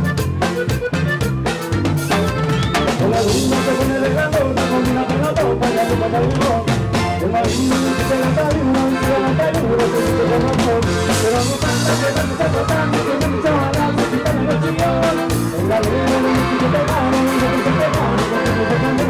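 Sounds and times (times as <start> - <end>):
accordion melody: 0.0 - 19.0
drum kit dance beat: 0.0 - 19.0
electric bass: 0.0 - 19.0.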